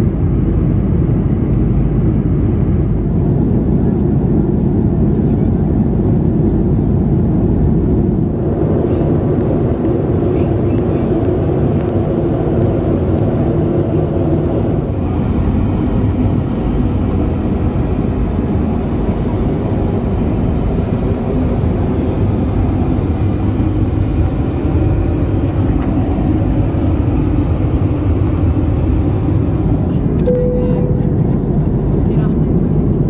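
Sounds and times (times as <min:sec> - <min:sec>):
aircraft cabin rumble: 0:00.0 - 0:33.0.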